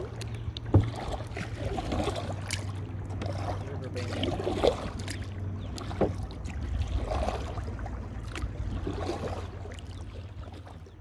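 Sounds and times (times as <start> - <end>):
paddle splashing in water: 0.0 - 11.0
water rumbling along hull: 0.0 - 11.0.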